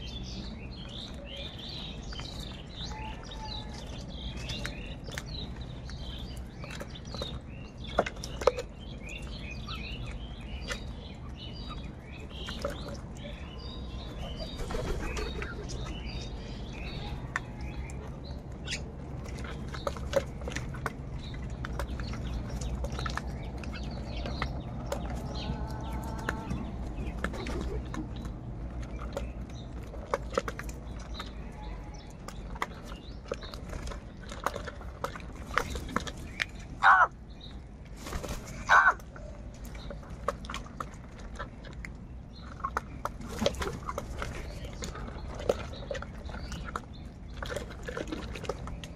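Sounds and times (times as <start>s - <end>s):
beaks pecking at plastic basin: 0.1s - 37.6s, 38.5s - 48.9s.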